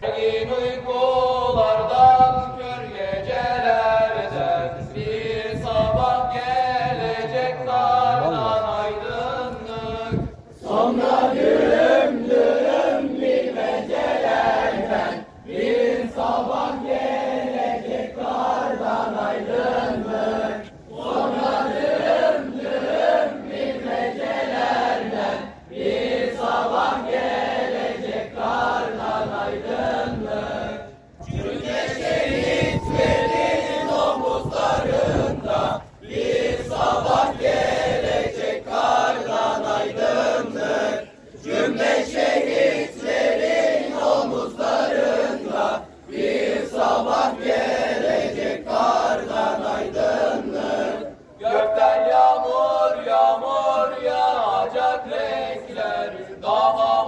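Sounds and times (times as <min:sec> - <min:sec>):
boys singing unaccompanied: 0:00.0 - 0:57.0.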